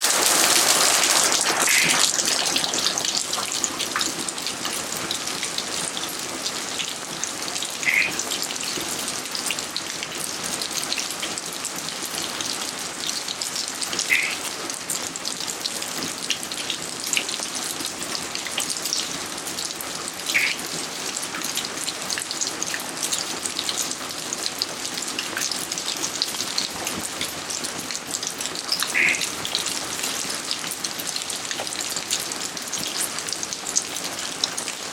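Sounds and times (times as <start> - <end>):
rain pattering on garden: 0.0 - 34.9.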